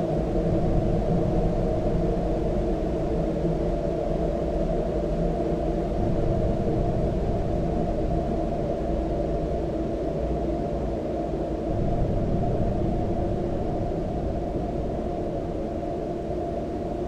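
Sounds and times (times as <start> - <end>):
dark ambient drone: 0.0 - 17.0.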